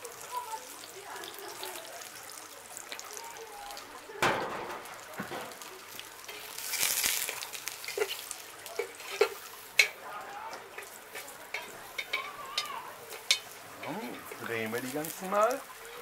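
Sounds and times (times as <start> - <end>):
mushrooms sizzling in oil: 0.0 - 16.0.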